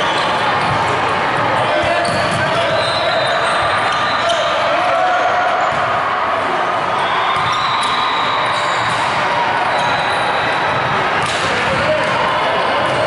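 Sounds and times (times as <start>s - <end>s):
echoing din of volleyball play: 0.0s - 13.0s.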